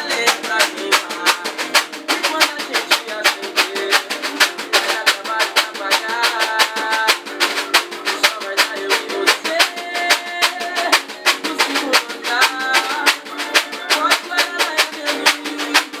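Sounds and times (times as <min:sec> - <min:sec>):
pagode music with singing: 0:00.0 - 0:16.0
scraper strokes: 0:00.0 - 0:16.0.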